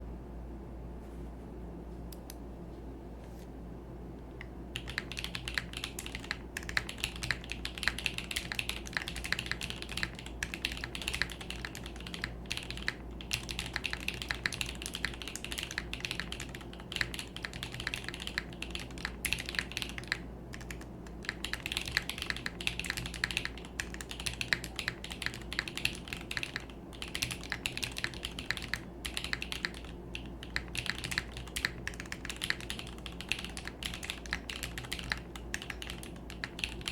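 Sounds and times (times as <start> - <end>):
typing on mechanical keyboard: 4.8 - 36.9.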